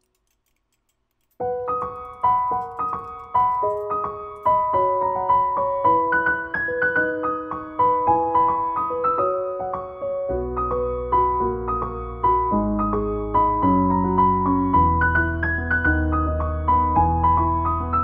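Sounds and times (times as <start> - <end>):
light piano tune: 1.3 - 18.0.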